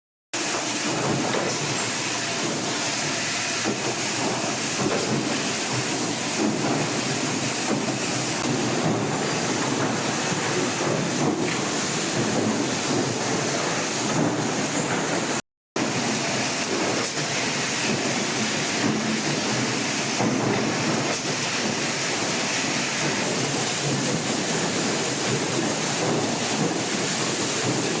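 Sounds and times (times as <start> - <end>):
factory machinery noise: 0.4 - 28.0.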